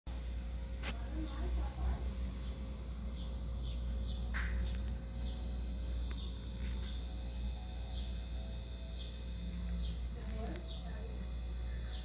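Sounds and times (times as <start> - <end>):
low hum: 0.1 - 12.0.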